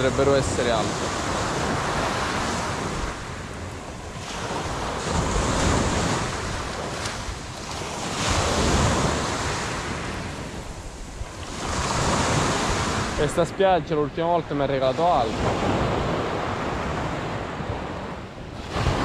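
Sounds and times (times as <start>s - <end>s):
sea waves washing onto beach: 0.0s - 19.0s
wind buffeting microphone: 0.0s - 19.0s.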